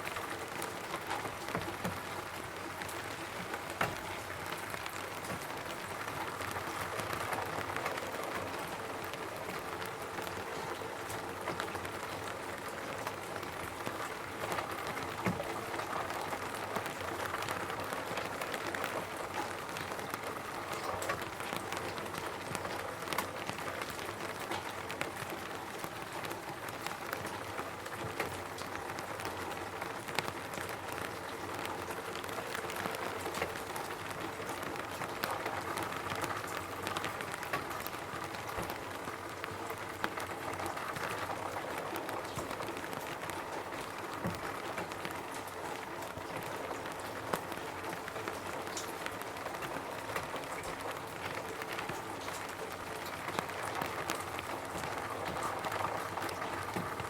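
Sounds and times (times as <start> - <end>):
rain pattering on a roof: 0.0 - 57.0.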